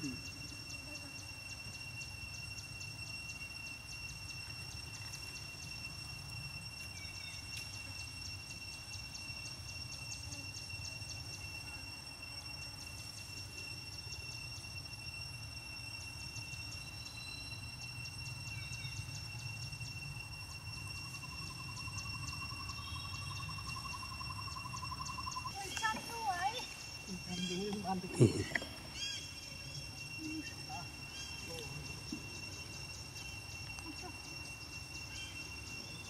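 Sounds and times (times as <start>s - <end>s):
faint wavering trill: 0.0s - 36.0s
insects high-pitched tones: 0.0s - 36.0s.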